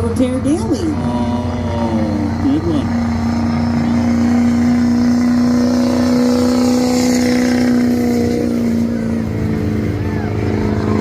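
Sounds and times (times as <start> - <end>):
diesel truck engine at high revs: 0.0 - 11.0.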